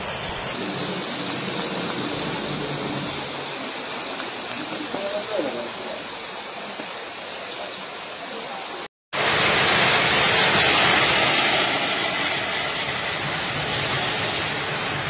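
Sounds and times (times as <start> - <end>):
storm water rushing: 0.0 - 15.0.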